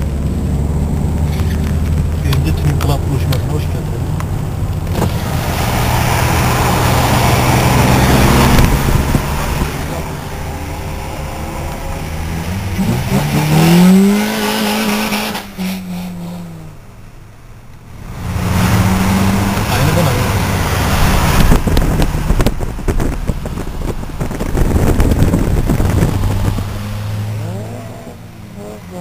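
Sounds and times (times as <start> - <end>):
car engine revving: 0.0 - 29.0
tyre noise on wet road: 0.0 - 29.0.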